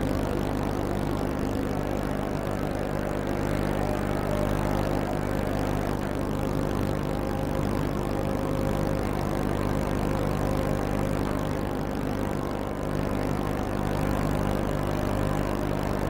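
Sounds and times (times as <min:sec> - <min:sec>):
boat engine running steadily: 0:00.0 - 0:16.0.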